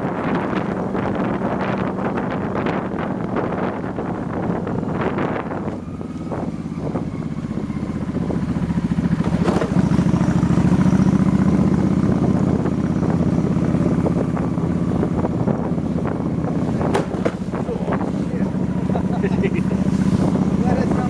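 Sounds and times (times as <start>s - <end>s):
motorbike engine running: 0.0s - 21.0s
wind buffeting microphone: 0.0s - 21.0s.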